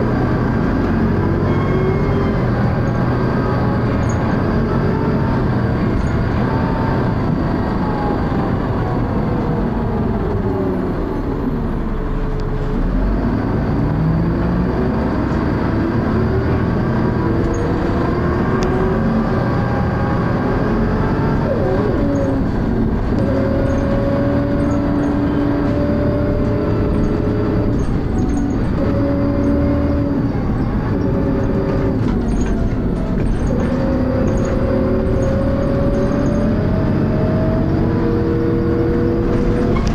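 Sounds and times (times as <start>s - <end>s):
bus engine and transmission whine: 0.0s - 39.9s.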